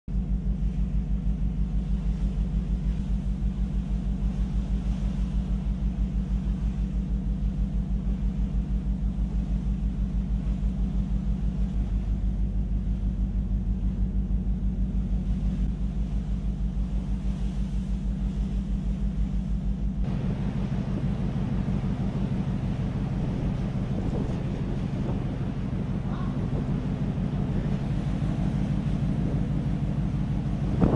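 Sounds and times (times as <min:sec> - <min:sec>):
ship engine throbbing hum: 0:00.1 - 0:30.9.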